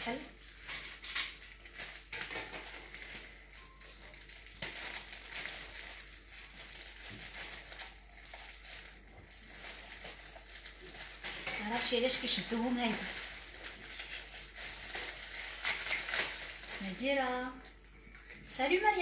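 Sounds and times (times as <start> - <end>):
plastic wrapper crinkling: 0.0 - 19.0.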